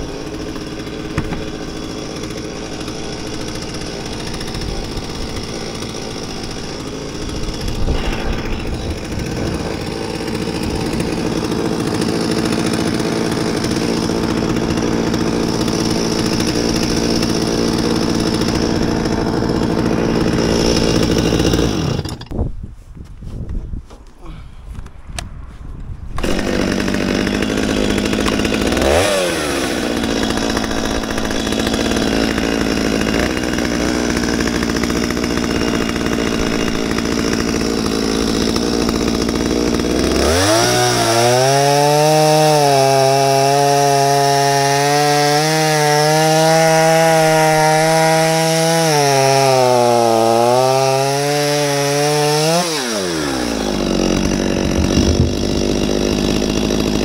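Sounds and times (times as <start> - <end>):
chainsaw engine revving: 0.0 - 22.3, 26.2 - 57.0
chainsaw cutting log: 0.0 - 22.5, 26.1 - 57.0.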